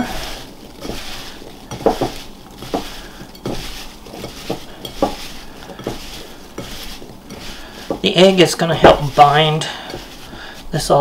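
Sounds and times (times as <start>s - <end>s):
wet rustle of apple pieces: 0.0s - 11.0s
apple chunks knocking bowl: 0.4s - 10.4s.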